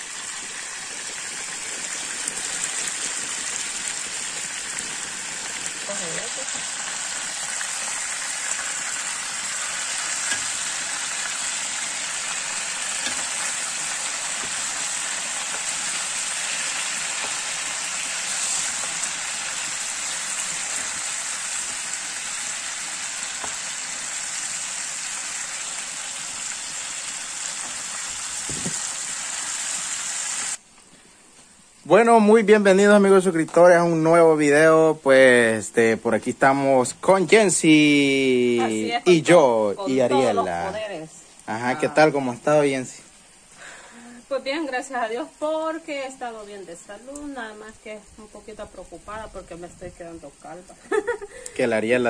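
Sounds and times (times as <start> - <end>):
meat sizzling in oil: 0.0 - 30.6, 32.5 - 52.0.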